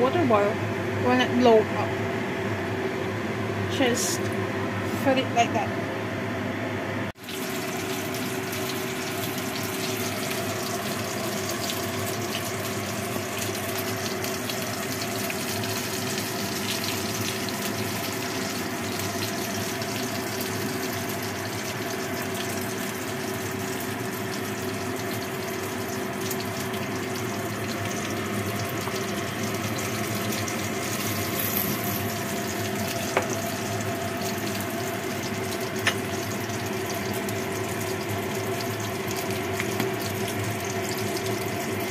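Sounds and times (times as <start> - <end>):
soup boiling hard: 7.2 - 41.9.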